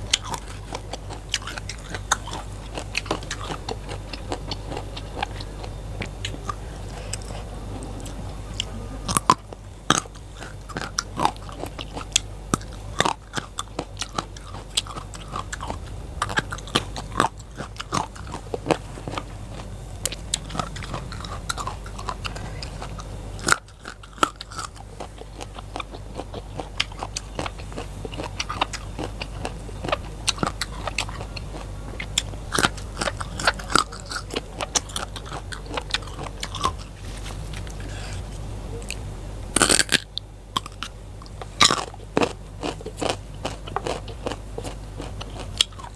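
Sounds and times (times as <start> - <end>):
crunching raw vegetables: 0.0 - 45.9.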